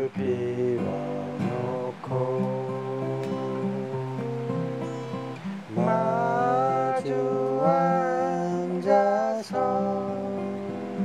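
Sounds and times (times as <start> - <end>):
person singing: 0.0 - 4.3, 5.6 - 11.0
acoustic guitars strumming: 0.0 - 11.0.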